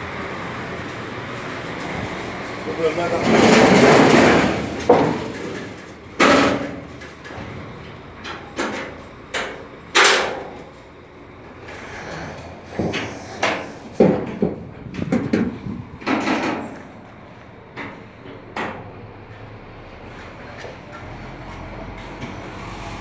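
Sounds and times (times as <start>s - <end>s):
metal gates clanking and banging: 1.8s - 11.8s, 12.6s - 22.5s.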